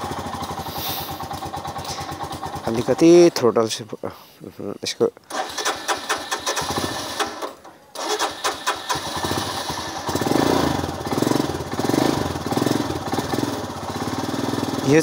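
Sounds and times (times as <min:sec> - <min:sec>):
motorcycle engine revving: 0:00.0 - 0:03.2, 0:05.3 - 0:15.0.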